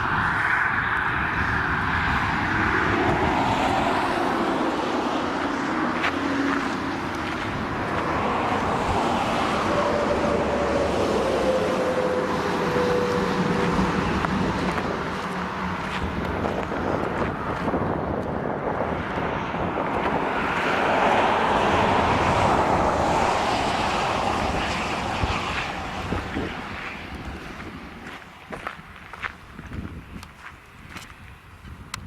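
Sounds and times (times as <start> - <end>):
vehicle passing with hum: 0.0 - 30.8
road traffic: 0.0 - 32.0
wind: 0.0 - 32.0.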